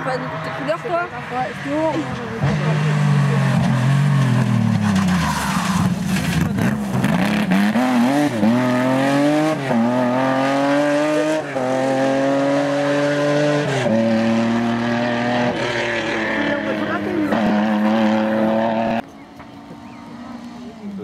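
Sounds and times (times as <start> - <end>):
rally car engine accelerating: 0.1 - 21.0.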